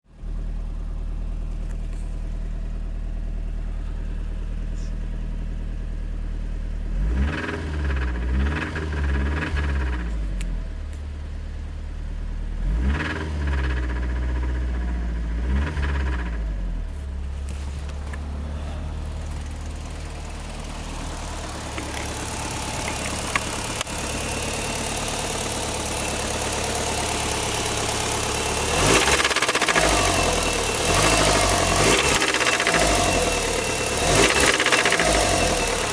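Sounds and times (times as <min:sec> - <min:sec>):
car engine idling and revving: 0:00.1 - 0:35.9
engine rattle: 0:00.1 - 0:35.9.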